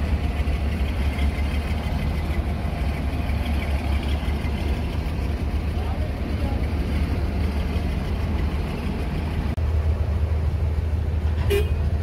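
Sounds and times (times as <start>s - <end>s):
diesel engine rumbling past: 0.0s - 12.0s.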